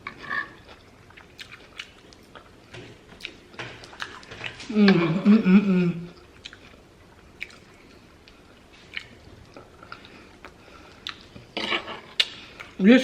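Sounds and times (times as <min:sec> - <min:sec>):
person chewing food: 0:00.1 - 0:04.7, 0:06.1 - 0:12.8.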